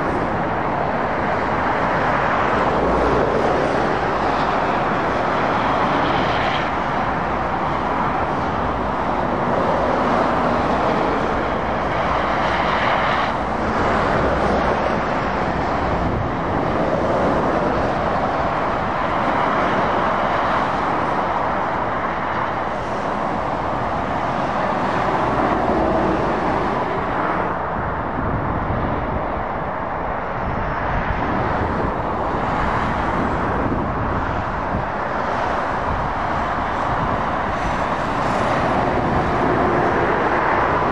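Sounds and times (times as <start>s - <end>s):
motorway traffic passing at speed: 0.0s - 40.9s.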